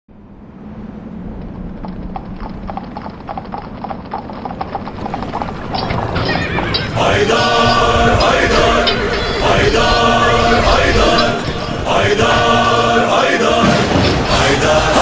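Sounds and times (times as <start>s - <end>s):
low rumble: 0.1s - 15.0s
horses galloping: 1.3s - 15.0s.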